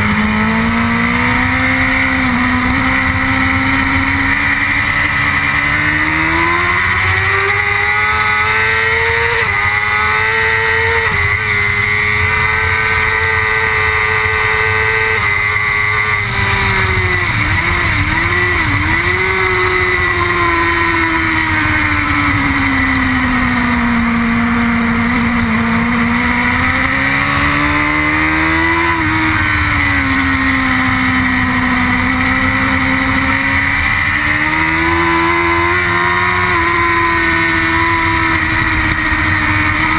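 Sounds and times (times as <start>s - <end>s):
motorcycle engine at racing speed: 0.0s - 39.9s.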